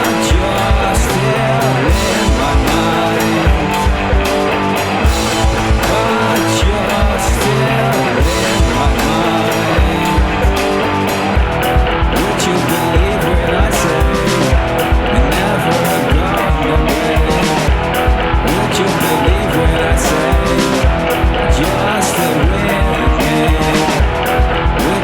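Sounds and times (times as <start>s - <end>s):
drum kit beat: 0.0s - 25.0s
electric guitar: 0.0s - 25.0s.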